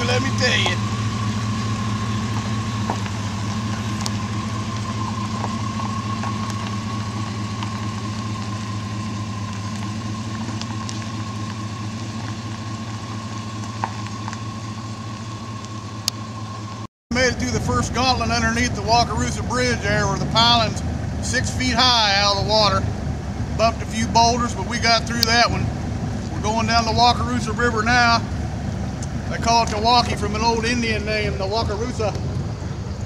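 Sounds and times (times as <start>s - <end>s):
suv engine idling: 0.0s - 33.0s.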